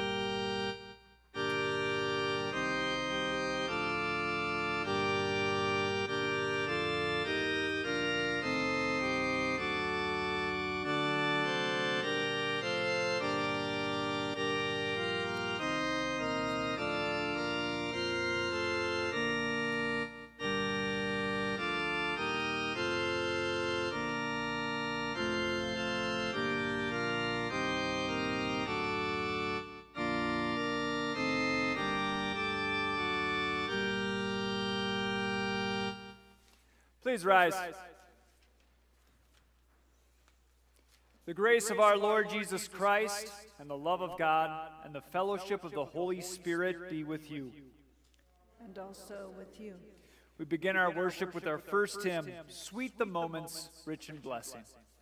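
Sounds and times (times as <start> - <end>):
organ playing slow chords: 0.0 - 38.5, 41.2 - 55.0.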